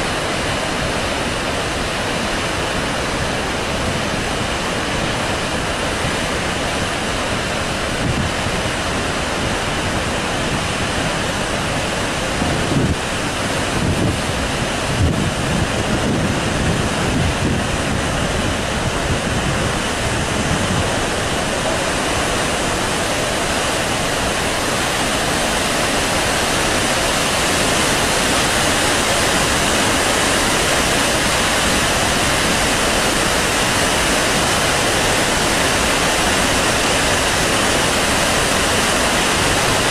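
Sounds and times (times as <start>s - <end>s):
dam water rushing: 0.0s - 39.9s
wind buffeting microphone: 1.9s - 39.9s.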